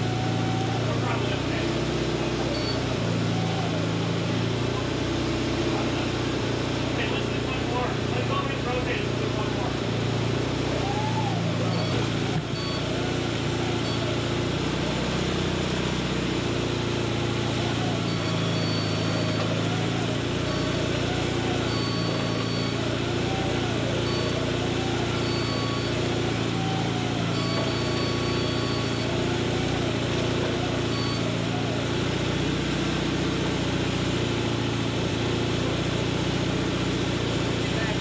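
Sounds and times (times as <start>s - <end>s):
sawmill engine running: 0.0s - 38.0s.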